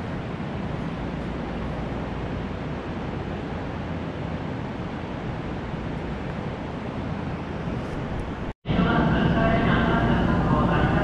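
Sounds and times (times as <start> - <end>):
rushing hum of station platform: 0.0 - 11.0.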